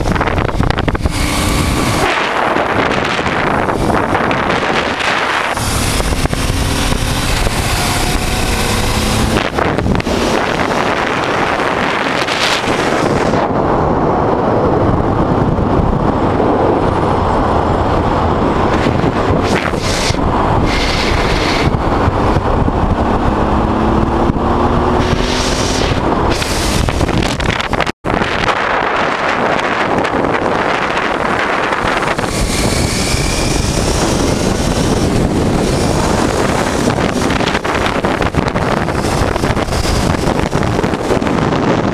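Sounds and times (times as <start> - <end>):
motorcycle engine accelerating: 0.0 - 41.9
wind buffeting microphone: 0.0 - 41.9.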